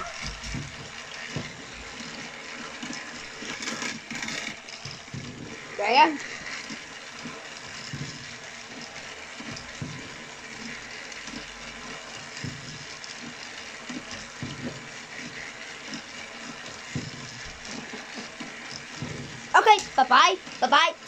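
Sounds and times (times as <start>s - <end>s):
toy train motor whirring: 0.0s - 21.0s.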